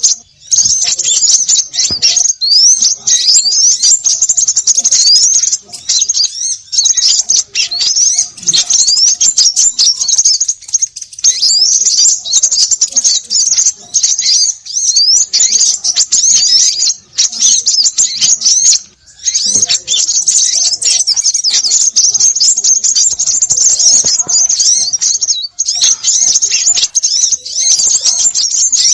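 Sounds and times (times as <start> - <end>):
many small birds chirping: 0.0 - 28.9.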